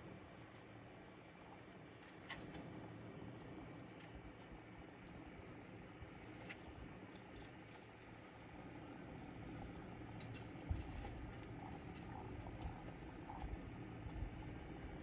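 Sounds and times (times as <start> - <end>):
bird scratching and pecking: 1.4 - 15.0.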